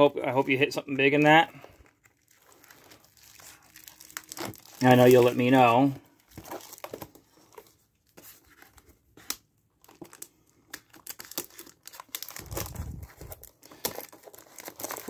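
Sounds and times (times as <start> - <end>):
plastic wrapping crinkling and tearing: 1.1 - 15.0.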